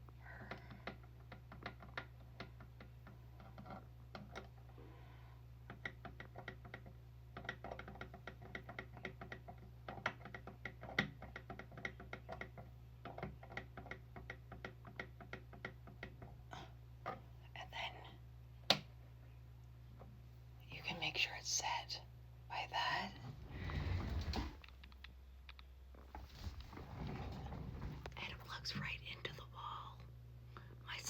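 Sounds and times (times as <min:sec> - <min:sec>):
steady low hum: 0:00.0 - 0:10.6, 0:11.6 - 0:31.0.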